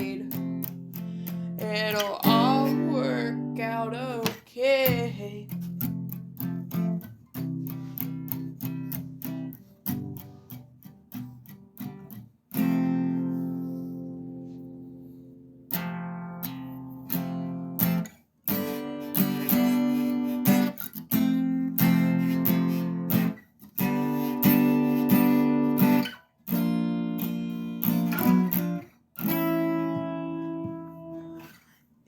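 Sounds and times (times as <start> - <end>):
acoustic guitar strumming chords: 0.0 - 31.6.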